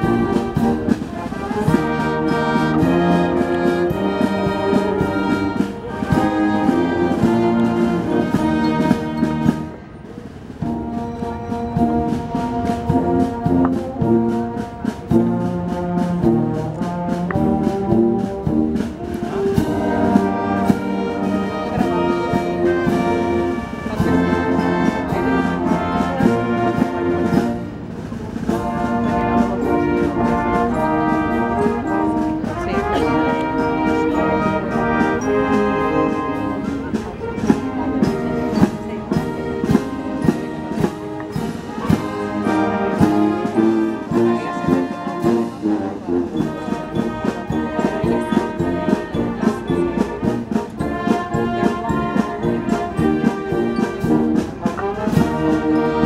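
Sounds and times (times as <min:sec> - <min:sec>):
brass band playing a hymn: 0:00.0 - 0:56.0
drum strokes: 0:00.0 - 0:56.0.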